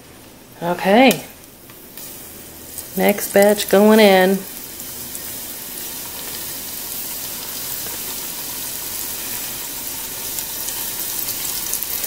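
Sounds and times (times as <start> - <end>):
chicken frying in fat: 0.1 - 12.0.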